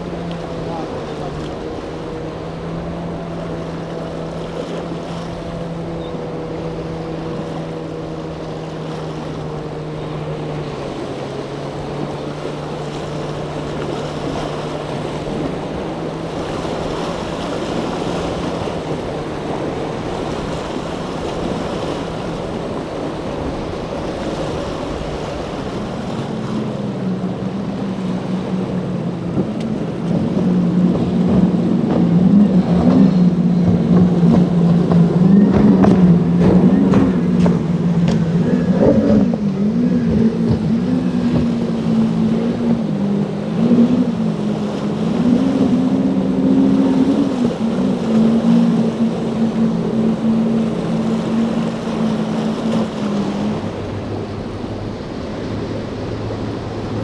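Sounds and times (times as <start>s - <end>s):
loud outboard engines approaching: 0.0s - 57.0s
small outboard motor running: 0.0s - 57.0s
waves: 0.0s - 57.0s
wind: 0.0s - 57.0s.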